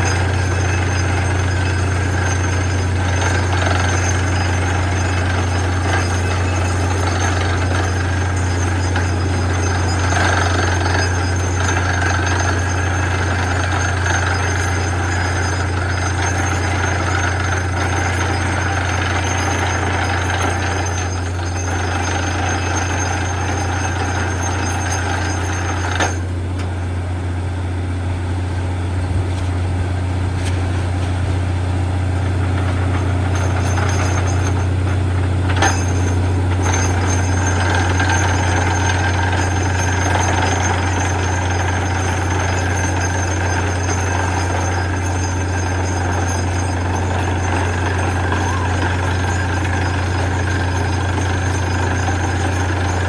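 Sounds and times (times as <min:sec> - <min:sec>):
drilling noise: 0:00.0 - 0:26.3, 0:35.4 - 0:53.0
drilling machine engine drone: 0:00.0 - 0:53.0.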